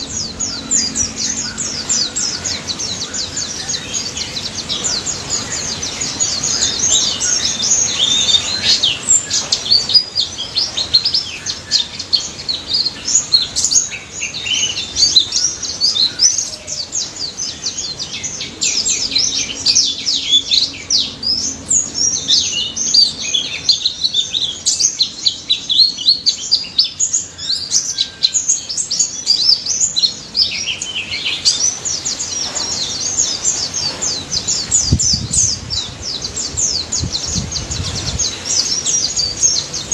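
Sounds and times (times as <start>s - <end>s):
birds twittering and chirping: 0.0s - 39.9s.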